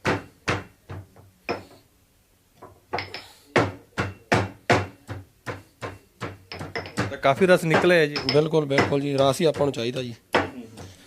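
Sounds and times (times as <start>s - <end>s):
ginger being pounded: 0.0s - 1.7s, 2.9s - 11.0s.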